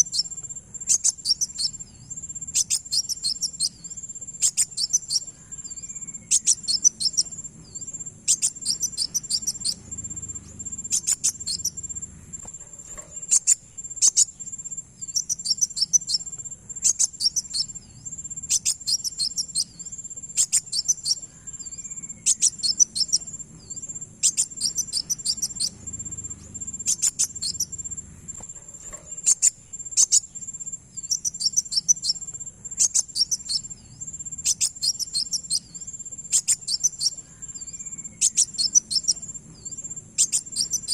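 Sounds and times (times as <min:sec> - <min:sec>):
high-pitched insect-like buzz: 0:00.0 - 0:40.9
sunbird high chirping: 0:00.0 - 0:40.9.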